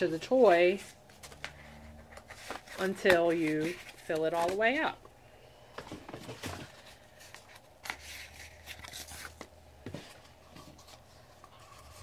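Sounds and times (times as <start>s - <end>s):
paper and cardboard rustling: 0.0s - 5.0s, 5.8s - 12.0s.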